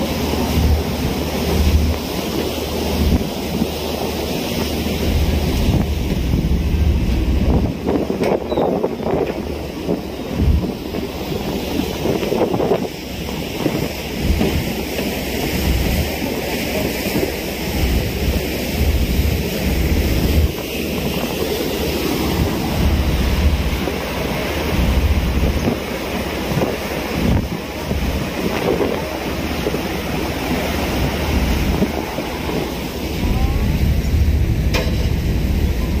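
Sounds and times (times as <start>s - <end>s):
rushing sea water: 0.0s - 36.0s
wind buffeting microphone: 0.0s - 36.0s.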